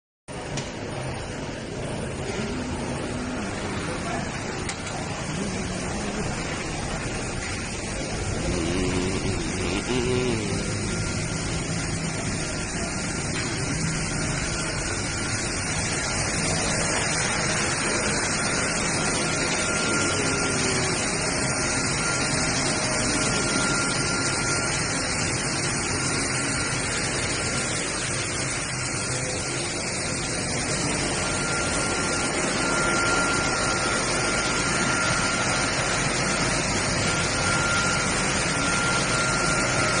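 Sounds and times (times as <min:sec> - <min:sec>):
faint high whine: 0:00.3 - 0:40.0
industrial machinery running: 0:00.3 - 0:40.0.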